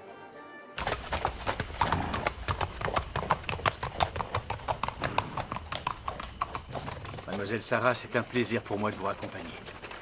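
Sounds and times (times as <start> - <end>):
hooves clopping on cobblestones: 0.8 - 10.0.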